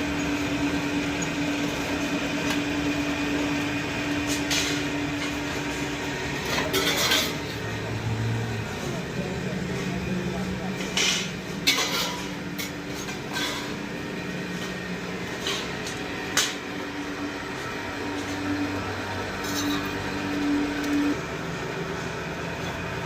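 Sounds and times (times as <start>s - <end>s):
machine hum: 0.0s - 9.7s, 12.4s - 23.0s.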